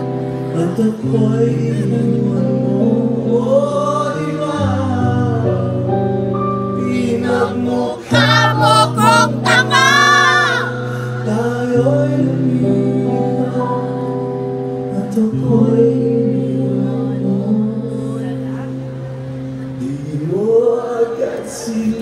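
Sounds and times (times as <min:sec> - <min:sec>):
held backing chords: 0:00.0 - 0:22.0
man singing into microphone: 0:00.0 - 0:22.0.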